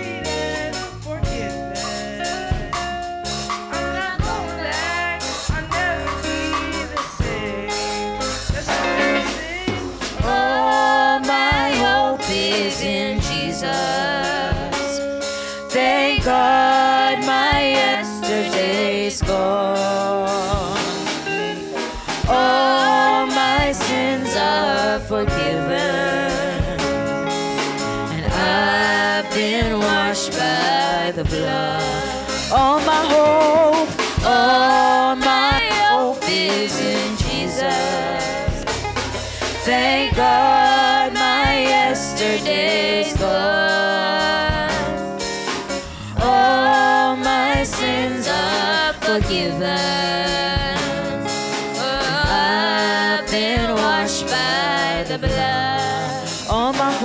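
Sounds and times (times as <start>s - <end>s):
women singing gospel song: 0.0s - 3.3s, 3.9s - 57.0s
drum kit and band: 0.0s - 57.0s.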